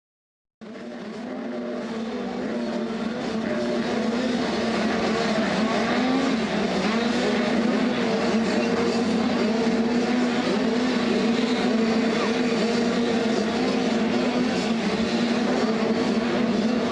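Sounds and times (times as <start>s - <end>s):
motocross bikes racing: 0.6s - 16.9s.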